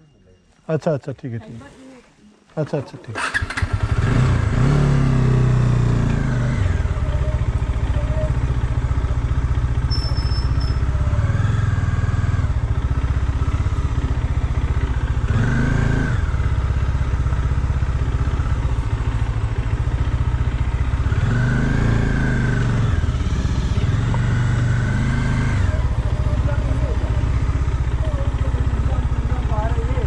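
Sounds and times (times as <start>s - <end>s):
motorcycle engine revving: 3.2s - 30.0s.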